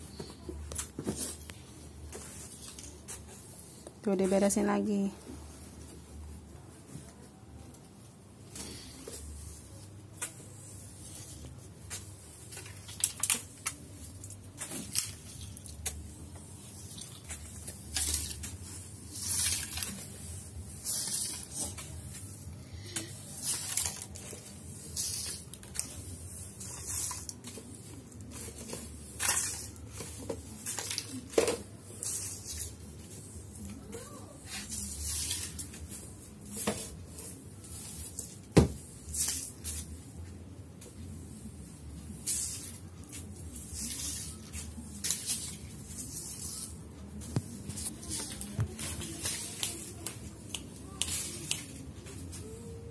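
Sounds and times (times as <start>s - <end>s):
broom sweeping tiled floor: 0.0s - 52.9s.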